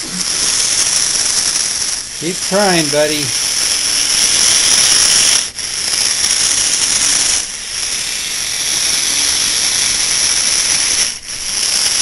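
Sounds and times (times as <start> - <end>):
small electric motors whirring: 0.0 - 12.0.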